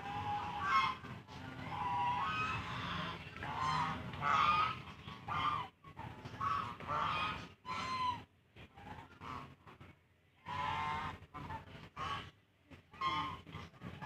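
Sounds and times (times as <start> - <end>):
geese honking: 0.0 - 9.6, 10.4 - 14.0.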